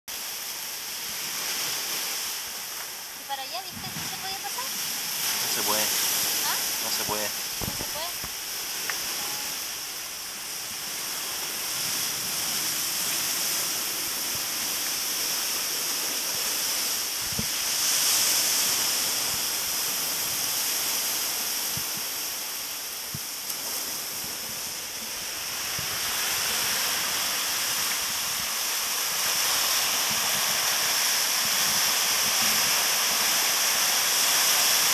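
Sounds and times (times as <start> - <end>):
high hiss: 0.1 - 34.9
surf breaking on rocks: 0.9 - 34.9.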